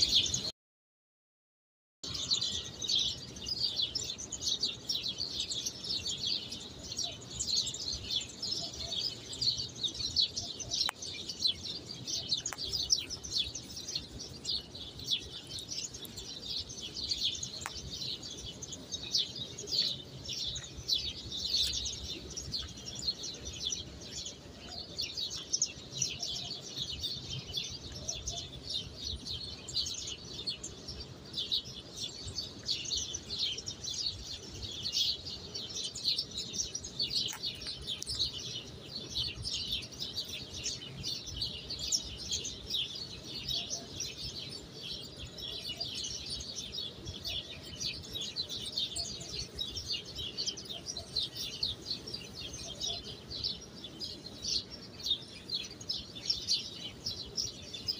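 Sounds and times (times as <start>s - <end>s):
small birds chirping: 0.0s - 0.5s, 2.0s - 57.9s.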